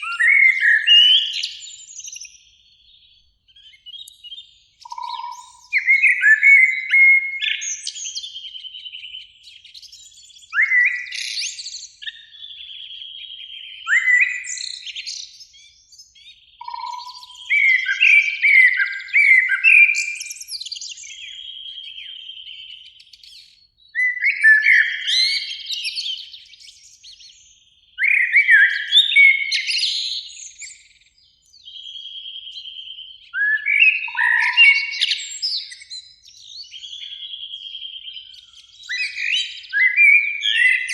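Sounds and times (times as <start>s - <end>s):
blackbird singing: 0.0s - 40.9s.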